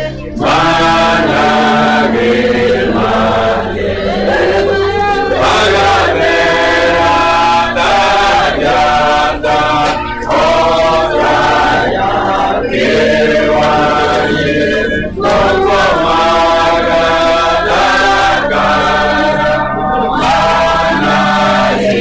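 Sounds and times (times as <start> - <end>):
group singing a hymn: 0.0 - 22.0.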